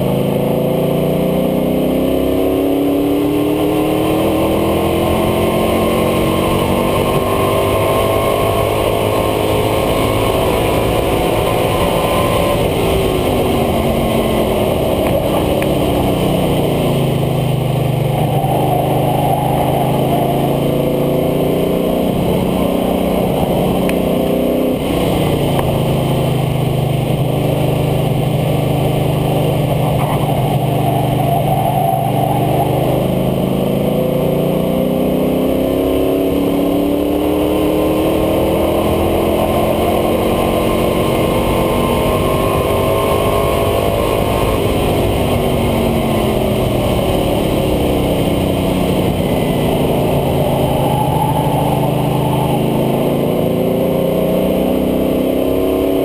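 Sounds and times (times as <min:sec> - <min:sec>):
road and wind noise: 0:00.0 - 0:56.0
truck engine pulling hard: 0:02.2 - 0:56.0.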